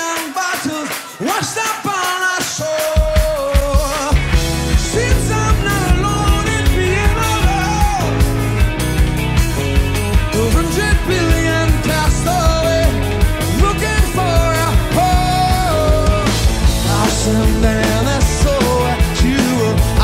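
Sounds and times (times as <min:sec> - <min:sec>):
person singing: 0:00.0 - 0:08.6, 0:10.2 - 0:20.0
drum beat: 0:00.0 - 0:20.0
rock music: 0:00.0 - 0:20.0.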